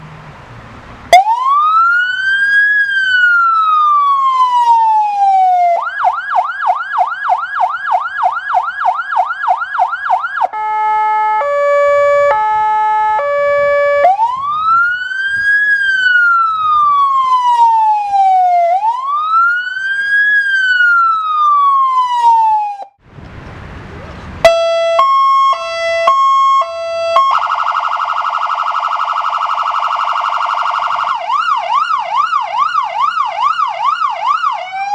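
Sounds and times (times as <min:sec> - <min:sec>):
fire engine siren: 0:01.1 - 0:23.0, 0:24.4 - 0:34.9.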